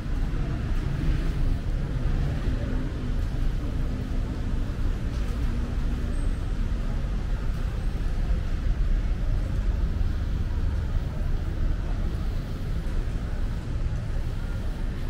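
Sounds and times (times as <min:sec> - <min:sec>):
even noise haze: 0:00.0 - 0:15.0.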